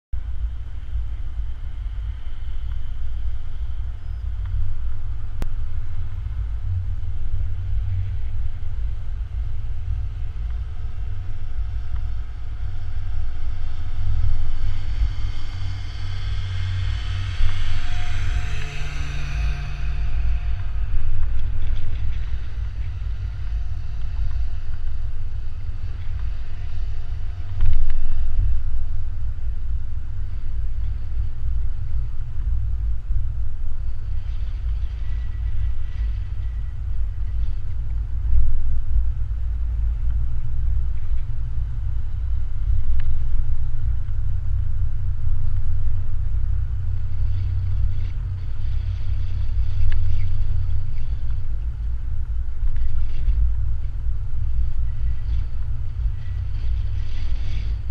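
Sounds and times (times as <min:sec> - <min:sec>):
vehicle driving rumble: 0:00.2 - 0:57.9.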